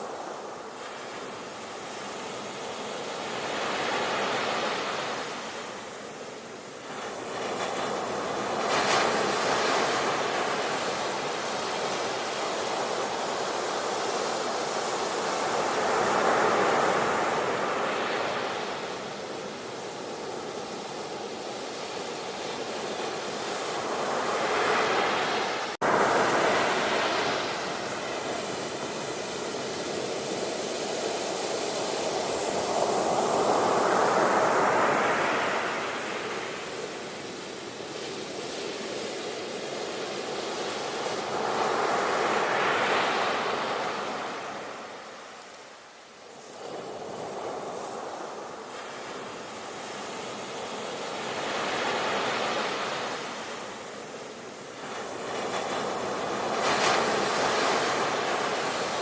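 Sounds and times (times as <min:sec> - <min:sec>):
sea waves breaking ashore: 0:00.0 - 0:59.0.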